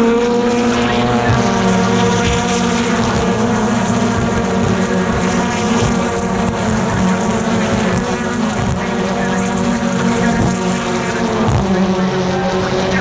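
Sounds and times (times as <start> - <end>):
racing car engines droning: 0.0 - 13.0.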